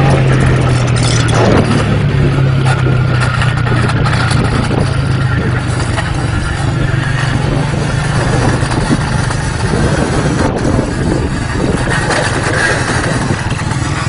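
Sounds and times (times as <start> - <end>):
loud rushing noise: 0.0 - 14.0
vehicle engine humming: 0.0 - 14.0.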